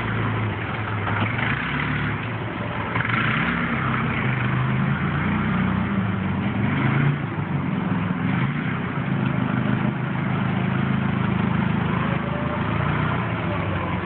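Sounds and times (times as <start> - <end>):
forklift engine running: 0.0 - 14.0.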